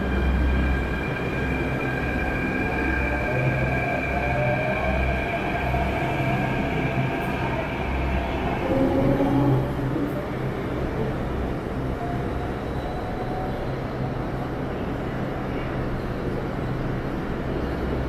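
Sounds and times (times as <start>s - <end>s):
train hum and rumble: 0.0s - 18.0s.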